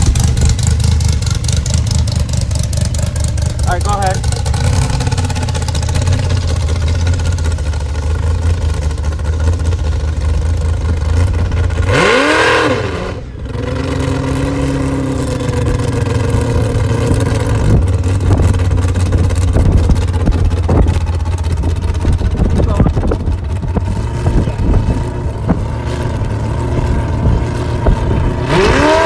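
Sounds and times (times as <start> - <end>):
dragster engine idling: 0.0 - 12.0, 13.2 - 28.4
engine revving: 0.0 - 29.0.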